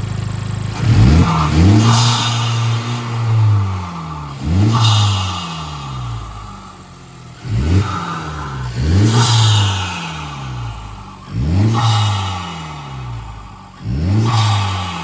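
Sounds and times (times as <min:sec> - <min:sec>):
car engine revving: 0:00.0 - 0:15.0
turbo rushing hiss: 0:00.0 - 0:15.0.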